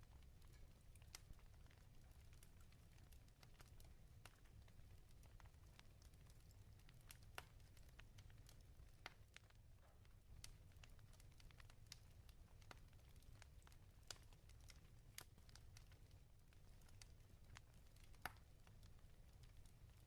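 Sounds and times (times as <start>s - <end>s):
fire crackling in fireplace: 0.0s - 20.0s.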